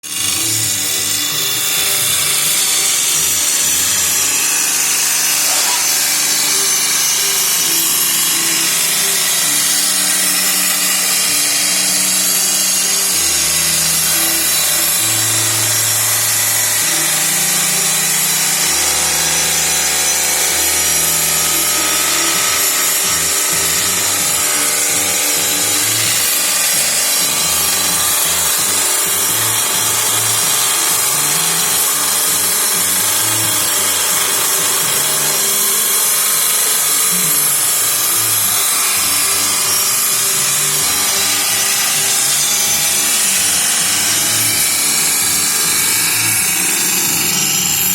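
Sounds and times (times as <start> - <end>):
grinder sharpening steel blade: 0.0 - 47.9.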